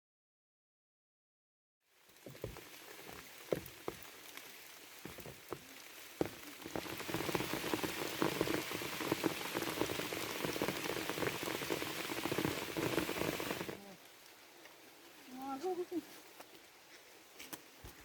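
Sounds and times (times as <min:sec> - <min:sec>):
rain pattering: 0:01.9 - 0:16.8.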